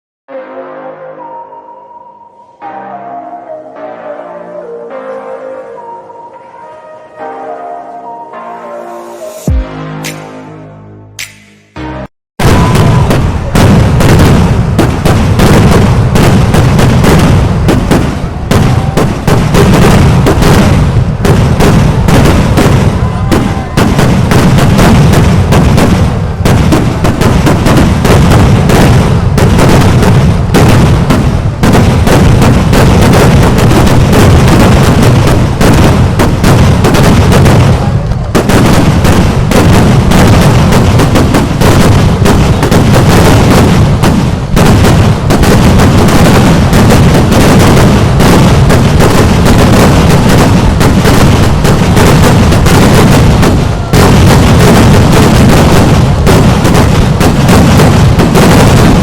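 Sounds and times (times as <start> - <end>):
firecracker explosions: 11.2 - 59.0.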